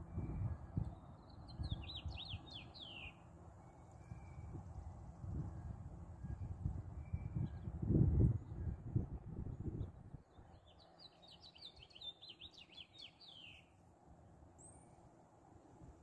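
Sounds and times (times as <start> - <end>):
songbird singing: 0.0 - 15.2.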